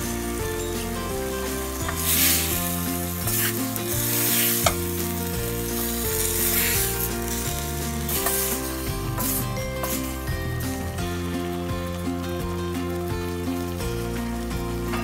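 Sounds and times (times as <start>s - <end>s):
background music: 0.0s - 15.0s
food sizzling in a pot: 0.0s - 15.0s.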